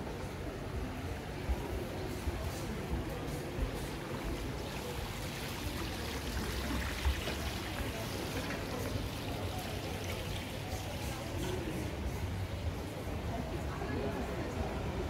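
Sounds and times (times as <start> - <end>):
faint voices: 0.0 - 15.0.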